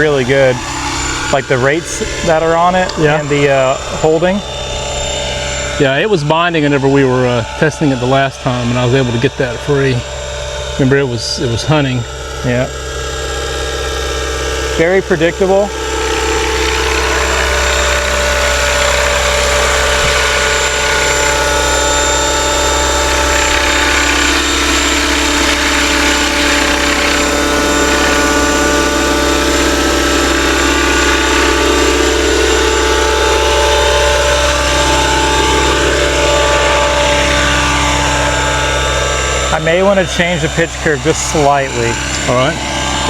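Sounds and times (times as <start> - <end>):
helicopter rotors humming: 0.0 - 43.0
rc helicopter motor whine: 0.0 - 43.0.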